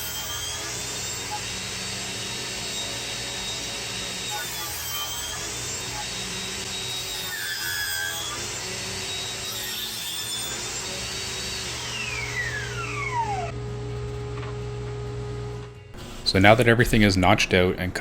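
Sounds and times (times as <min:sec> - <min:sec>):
table saw blade whine: 0:00.0 - 0:17.8.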